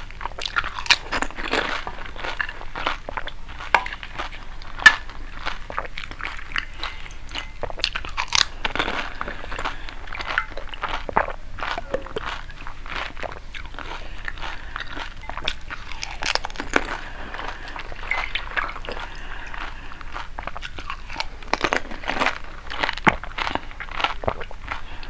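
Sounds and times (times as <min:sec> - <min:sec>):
chewing: 0:00.0 - 0:25.0
crunching crisp food: 0:00.0 - 0:25.0.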